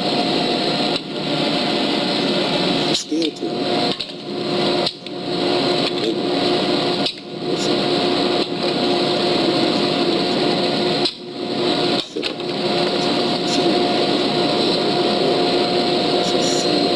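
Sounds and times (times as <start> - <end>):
drill press motor hum: 0.0 - 16.9.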